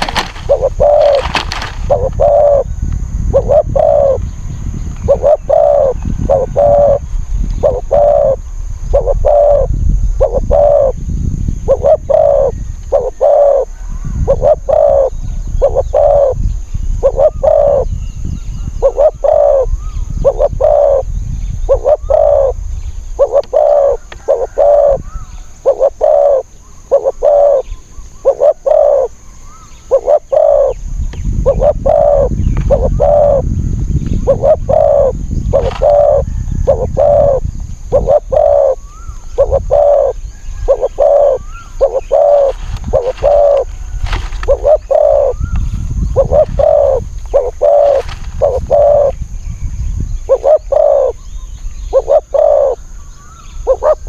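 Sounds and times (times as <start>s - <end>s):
dove cooing: 0.0s - 4.4s, 5.0s - 11.0s, 11.6s - 18.0s, 18.6s - 33.5s, 34.2s - 49.3s, 50.2s - 54.0s.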